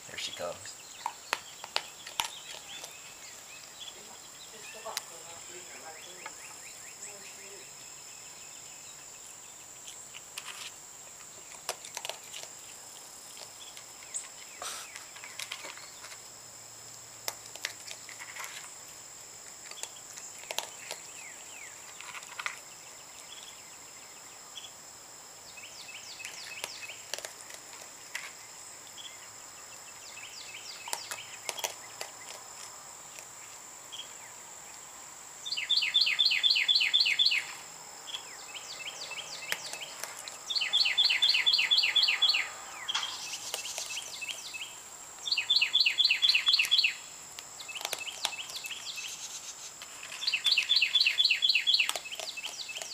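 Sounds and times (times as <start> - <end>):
raccoon chewing kibble: 0.1 - 7.8, 8.9 - 23.7, 26.0 - 34.8, 39.0 - 52.9.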